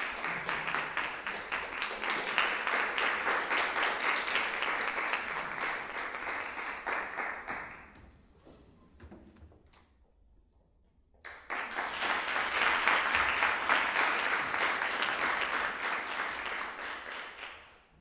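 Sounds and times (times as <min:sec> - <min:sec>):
audience applauding: 0:00.0 - 0:07.9, 0:11.3 - 0:18.0.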